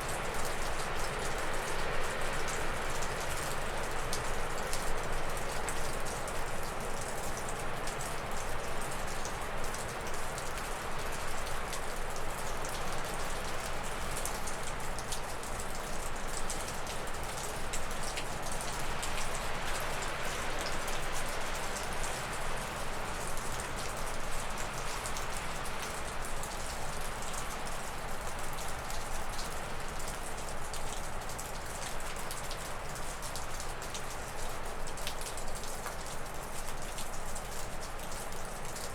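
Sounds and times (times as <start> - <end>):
water dripping off a roof: 0.0 - 38.9.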